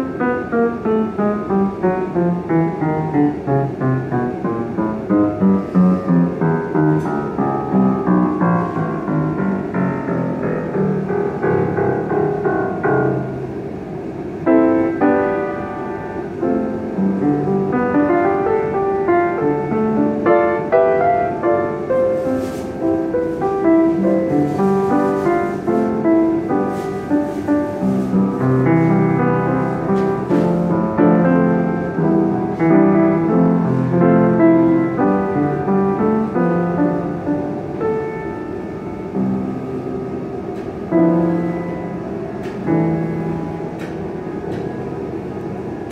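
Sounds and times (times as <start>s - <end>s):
upright piano playing: 0.0s - 45.9s.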